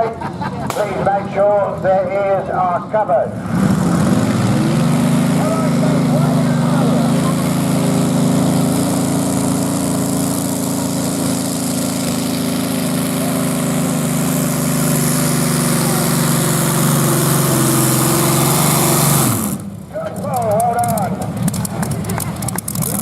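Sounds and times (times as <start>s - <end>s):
heavy engine at full power: 0.0s - 23.0s.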